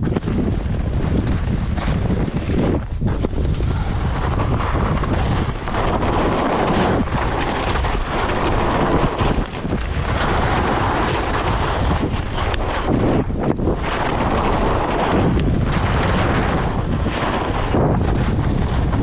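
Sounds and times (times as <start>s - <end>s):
skis sliding over snow: 0.0s - 19.0s
wind buffeting microphone: 0.0s - 19.0s.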